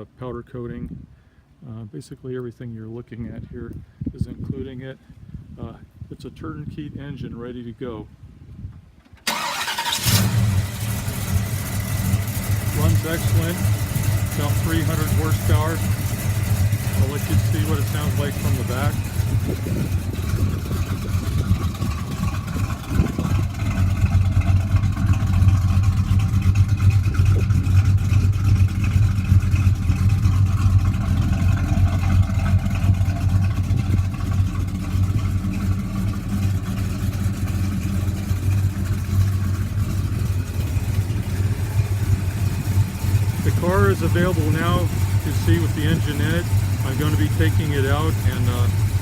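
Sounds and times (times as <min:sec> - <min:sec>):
car engine idling: 0:09.3 - 0:49.0.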